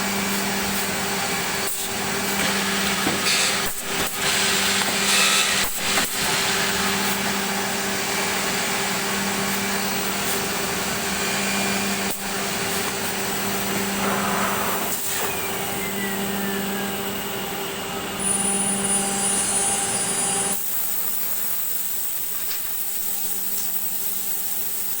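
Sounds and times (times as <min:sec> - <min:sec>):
whirring vacuum-like noise: 0:00.0 - 0:23.4.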